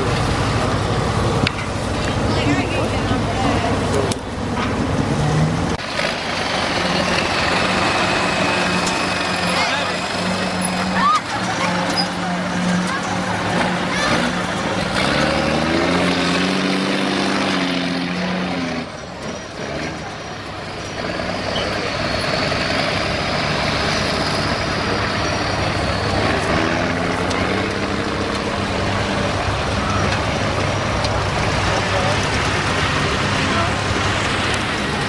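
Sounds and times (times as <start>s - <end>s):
truck engine revving under load: 0.0s - 35.0s.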